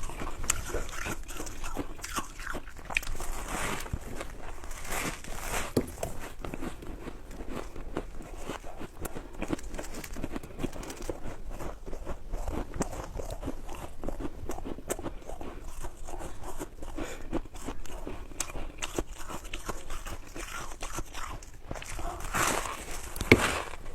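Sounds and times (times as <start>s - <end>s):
person chewing ice: 0.0s - 23.9s.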